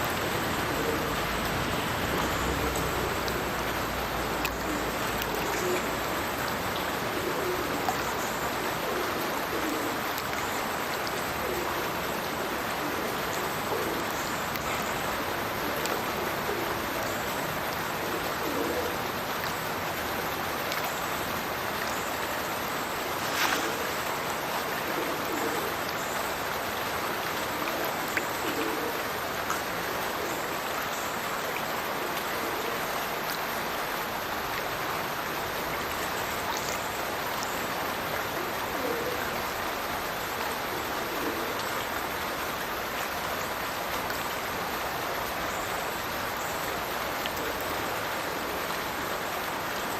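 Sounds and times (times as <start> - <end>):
rush and splash of falling water: 0.0 - 49.9.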